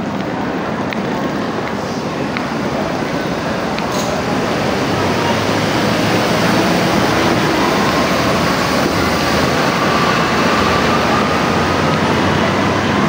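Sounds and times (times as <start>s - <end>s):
loud background din: 0.0s - 13.0s.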